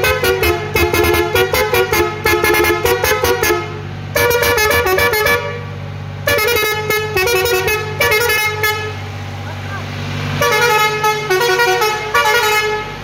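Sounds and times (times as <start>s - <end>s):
musical air horn tune: 0.0s - 9.0s, 10.4s - 13.0s
steady low hum: 0.0s - 13.0s.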